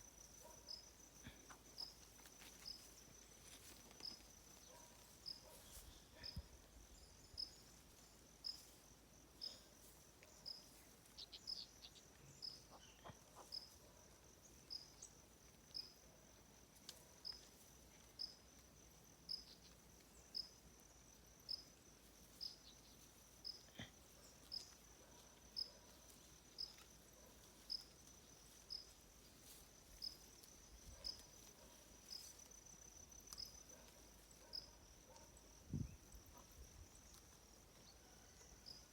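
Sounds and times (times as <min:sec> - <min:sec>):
insect chirping: 0:00.0 - 0:38.9
insects trilling: 0:00.0 - 0:38.9.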